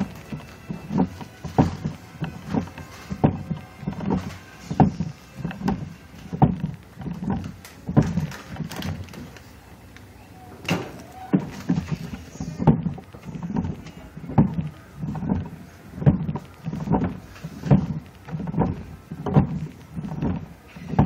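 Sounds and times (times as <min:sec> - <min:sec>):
dull knocks: 0:00.0 - 0:09.1, 0:10.7 - 0:21.0.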